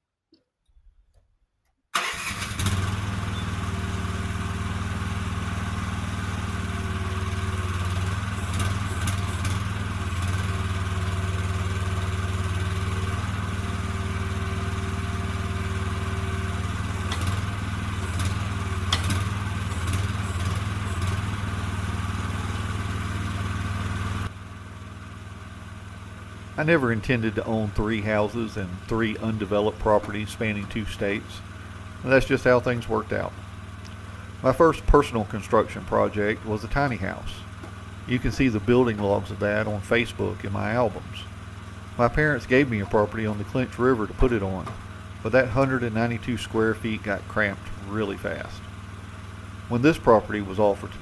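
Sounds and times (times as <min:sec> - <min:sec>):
vehicle engine running: 0:02.0 - 0:51.0.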